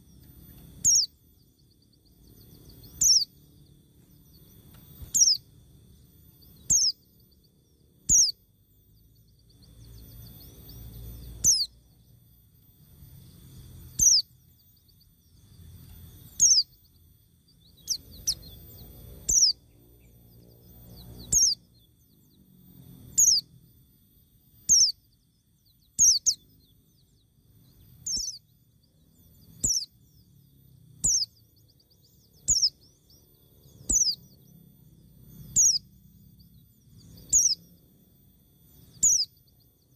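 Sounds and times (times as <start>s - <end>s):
faint low rumble: 0.0s - 39.9s.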